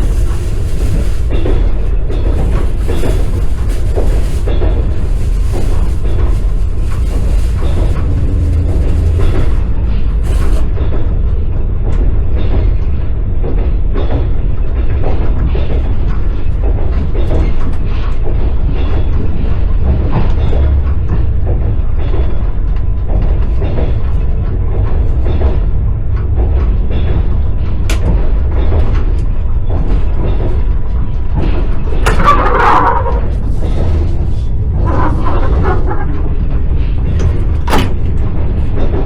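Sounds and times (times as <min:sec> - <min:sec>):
train carriage rumbling on track: 0:00.0 - 0:39.0
wheels knocking and creaking: 0:00.0 - 0:39.0.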